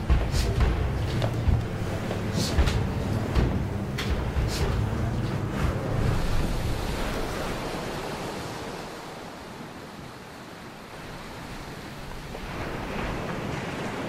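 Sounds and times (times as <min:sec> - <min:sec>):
surf washing on beach: 0:00.0 - 0:14.0.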